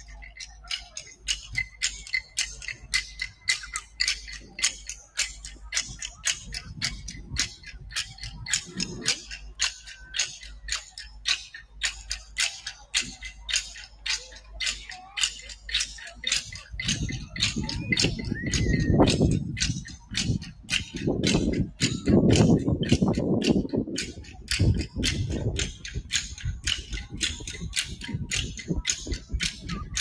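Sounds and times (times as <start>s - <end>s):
shaker rattling in a beat: 0.0s - 30.0s.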